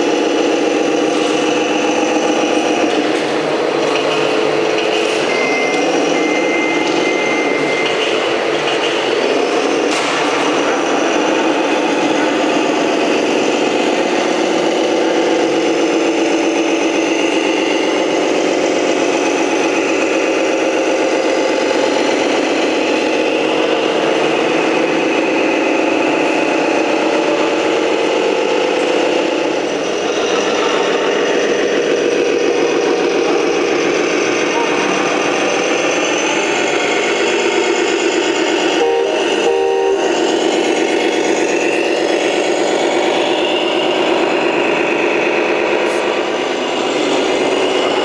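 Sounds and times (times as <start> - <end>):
model truck engine running: 0.0 - 48.0.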